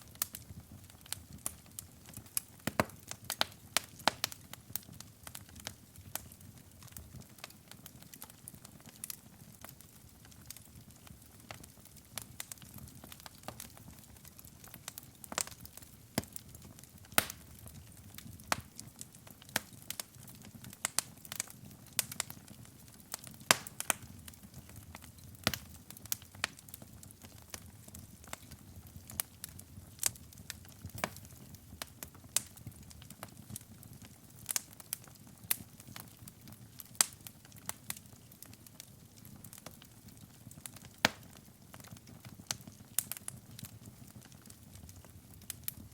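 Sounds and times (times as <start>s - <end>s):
fire crackling in fireplace: 0.0s - 45.9s.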